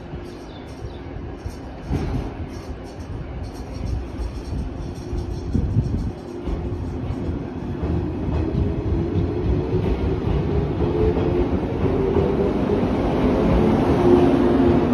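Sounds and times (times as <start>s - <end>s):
train wheels rumbling: 0.0s - 14.9s.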